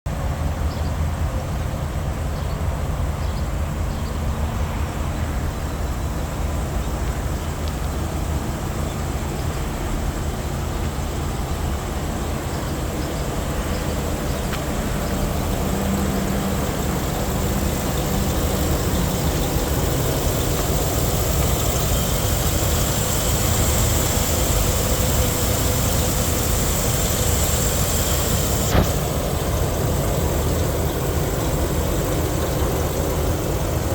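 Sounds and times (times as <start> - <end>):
truck engine rumbling: 0.1 - 33.9.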